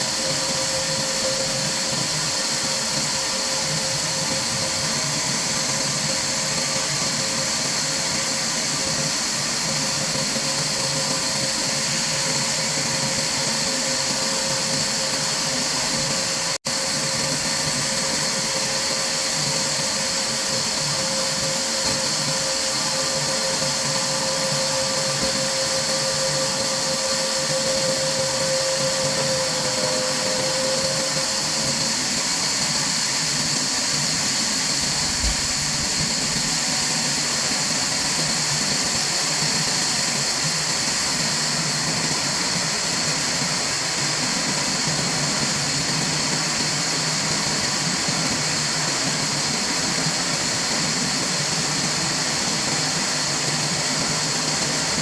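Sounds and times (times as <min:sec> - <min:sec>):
woodworking machinery whirring: 0:00.0 - 0:55.0.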